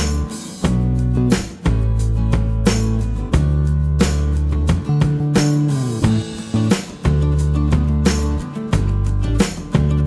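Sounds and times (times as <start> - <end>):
guitar-led song with bass: 0.0 - 10.0.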